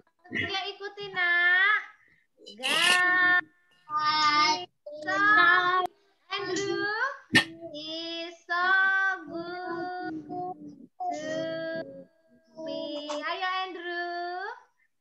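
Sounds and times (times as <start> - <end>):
woman and children singing: 2.6 - 14.6.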